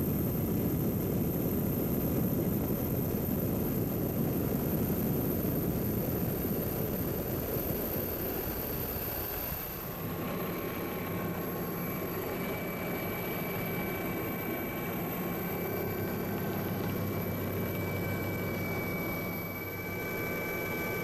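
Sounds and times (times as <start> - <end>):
constant whining tones: 0.0 - 21.0
helicopter engine and rotor noise: 0.0 - 21.0.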